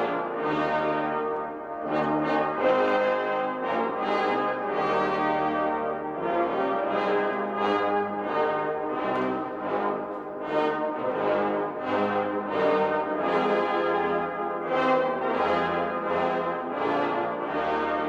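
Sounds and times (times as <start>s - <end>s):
brass band playing slow chords: 0.0s - 18.0s.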